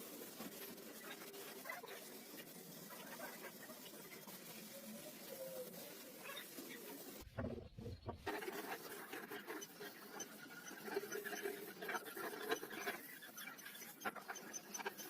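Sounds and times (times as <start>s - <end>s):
faint scratching and scraping: 0.0s - 15.0s.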